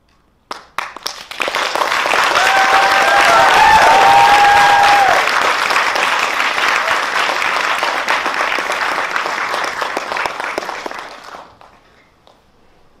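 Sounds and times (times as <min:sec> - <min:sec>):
audience applauding: 0:00.5 - 0:11.8.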